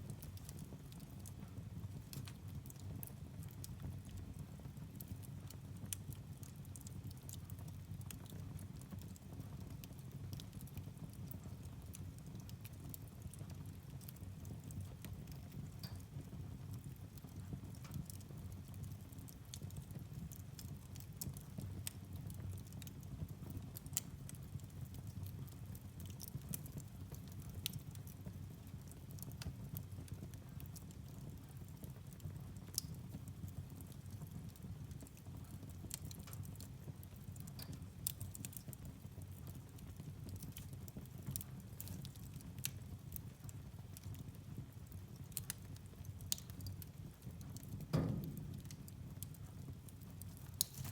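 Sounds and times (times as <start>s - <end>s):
firewood crackling and popping: 0.0s - 50.9s.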